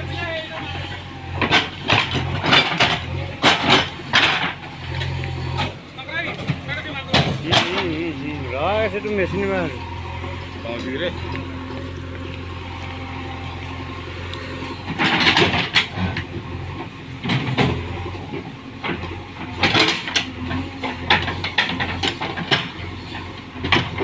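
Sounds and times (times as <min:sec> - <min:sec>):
heavy vehicle engine humming: 0:00.0 - 0:24.0.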